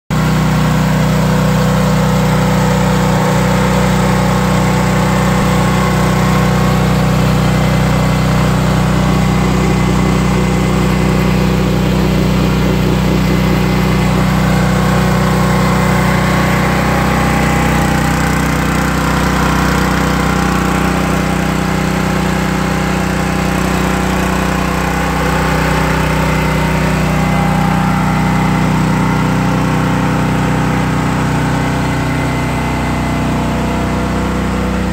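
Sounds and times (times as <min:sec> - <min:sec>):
small gasoline engine running: 0:00.1 - 0:34.9.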